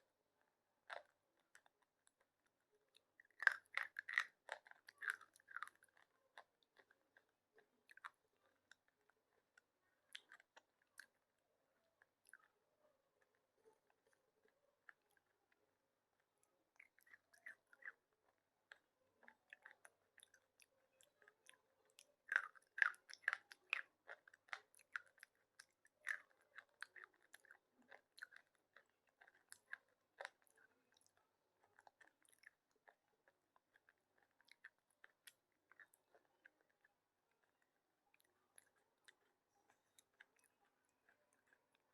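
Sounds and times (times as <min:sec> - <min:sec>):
pencil being chewed crunching: 0:00.0 - 0:41.9.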